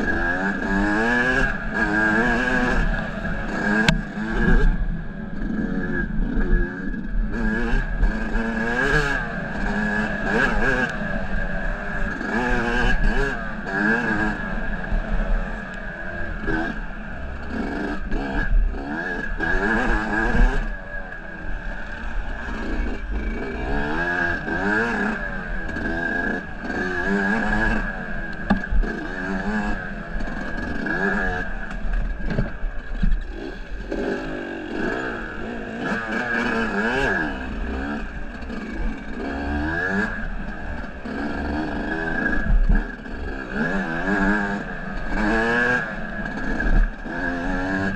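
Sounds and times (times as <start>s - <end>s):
off-road engine revving: 0.0s - 47.9s.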